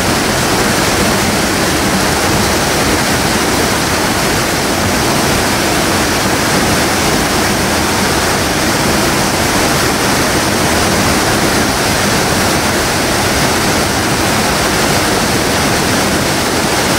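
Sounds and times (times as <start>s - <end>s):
water rushing over weir: 0.0s - 16.9s.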